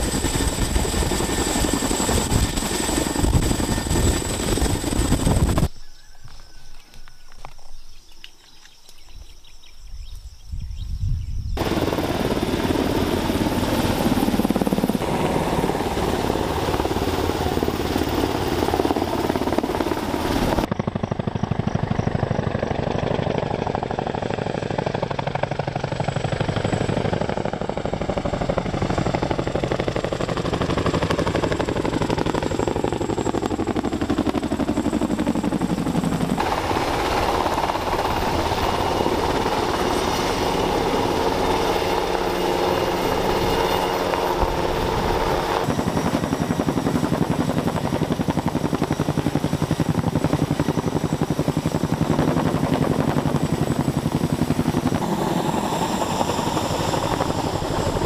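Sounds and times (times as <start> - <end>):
helicopter rotor chopping: 0.0 - 5.7, 11.6 - 58.0.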